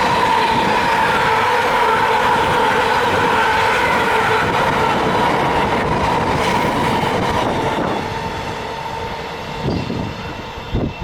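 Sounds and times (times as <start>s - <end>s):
freight train rolling over rails: 0.0s - 11.0s
train wheel whine: 0.0s - 11.0s.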